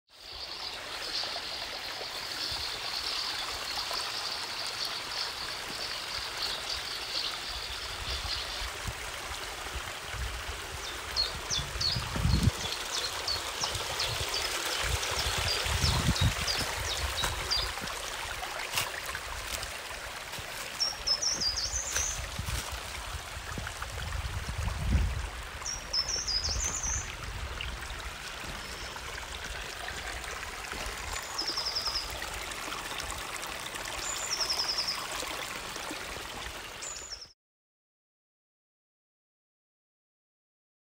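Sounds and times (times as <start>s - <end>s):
stream water rushing and trickling: 0.1s - 37.4s.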